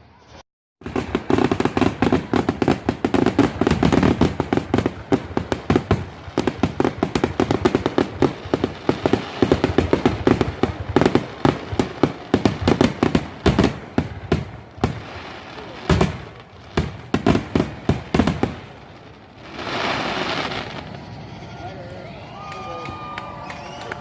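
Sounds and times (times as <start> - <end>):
firecrackers popping: 0.1 - 24.0.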